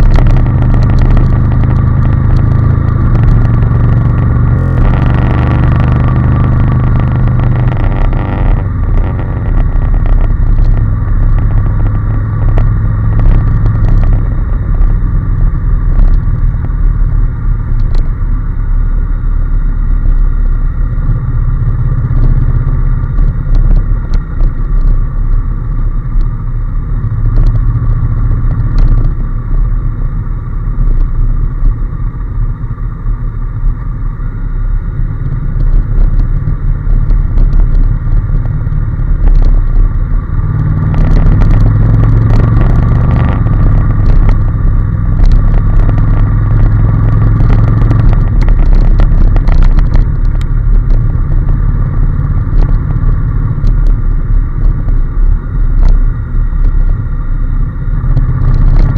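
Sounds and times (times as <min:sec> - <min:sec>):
motorcycle engine running: 0:00.0 - 0:58.9
wind rumble on microphone: 0:00.0 - 0:58.9.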